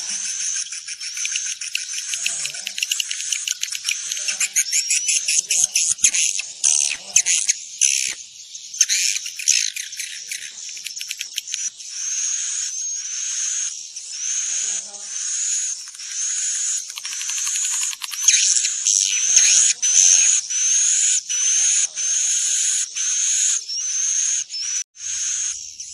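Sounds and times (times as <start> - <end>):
swiftlets chirping chorus: 0.0 - 25.9.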